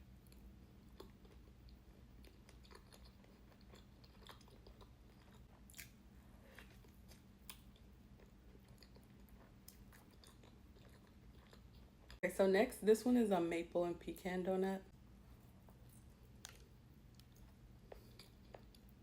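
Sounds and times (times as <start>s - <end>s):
steady low hum: 0.0s - 19.0s
person chewing: 0.2s - 12.2s, 15.4s - 19.0s.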